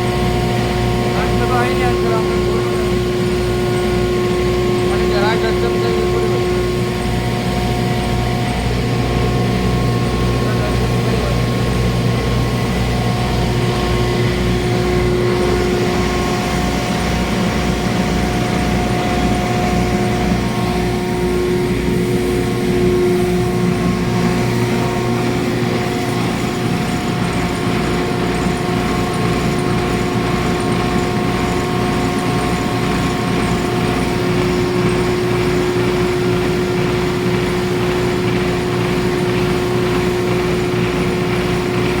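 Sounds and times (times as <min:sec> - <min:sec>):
grinding machine hum and whine: 0:00.0 - 0:42.0.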